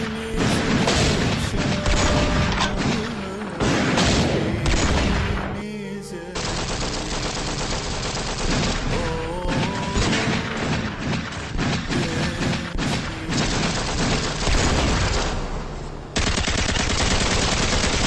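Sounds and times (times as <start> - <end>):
rifle and machine-gun fire: 0.0 - 5.6, 6.4 - 18.0
background music: 0.0 - 17.0.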